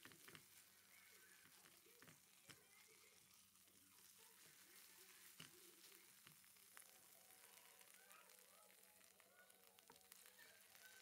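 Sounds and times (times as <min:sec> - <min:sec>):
faint sizzling in a pan: 0:00.0 - 0:11.0.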